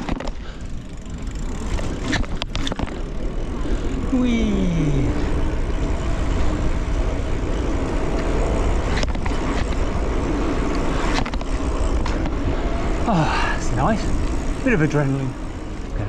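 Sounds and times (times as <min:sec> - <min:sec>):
bike tyre noise: 0:00.0 - 0:16.0.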